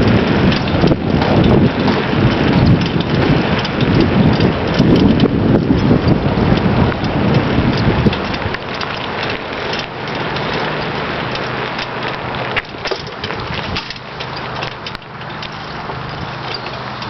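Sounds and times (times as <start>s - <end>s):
bike rattles and clicks: 0.0s - 17.0s
wind and road noise: 0.0s - 17.0s.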